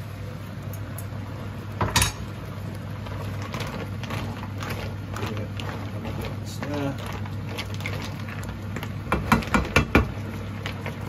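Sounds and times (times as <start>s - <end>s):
spoon stirring shellfish in pan: 1.8s - 11.0s.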